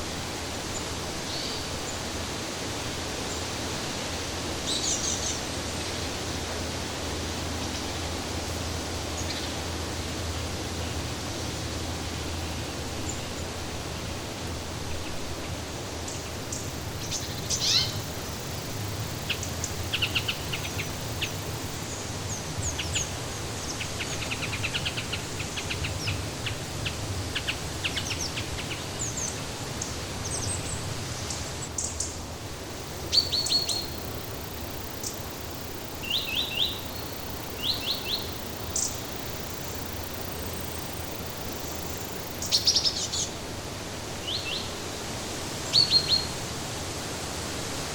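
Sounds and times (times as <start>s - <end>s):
small songbirds chirping: 0.6s - 2.1s, 4.6s - 6.1s, 7.4s - 14.3s, 14.9s - 43.5s, 44.2s - 44.8s, 45.6s - 46.5s.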